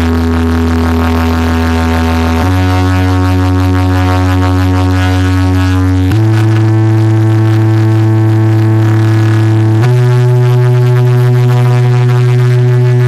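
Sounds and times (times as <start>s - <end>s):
low electronic drone notes: 0.0s - 13.0s.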